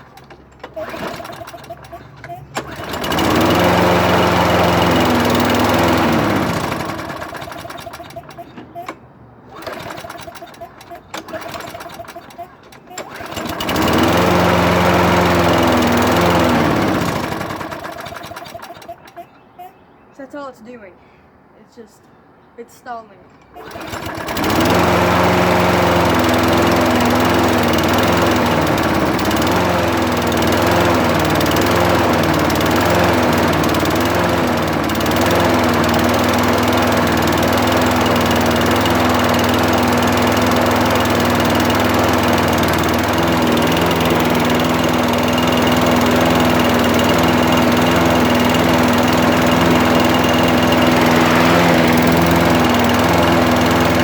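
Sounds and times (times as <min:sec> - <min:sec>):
lawn mower engine running: 0:00.0 - 0:19.8, 0:23.4 - 0:54.0.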